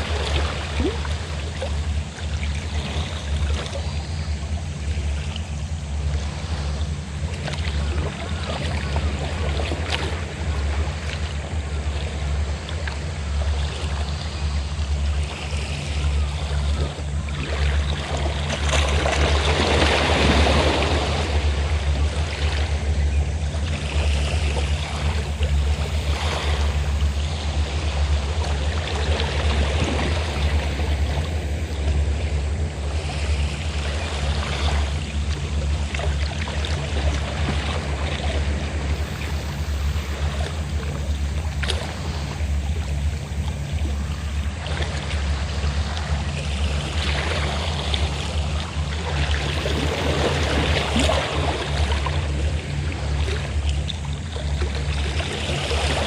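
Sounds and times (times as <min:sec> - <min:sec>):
boat engine humming: 0:00.0 - 0:56.0
sea waves washing in: 0:00.0 - 0:56.0.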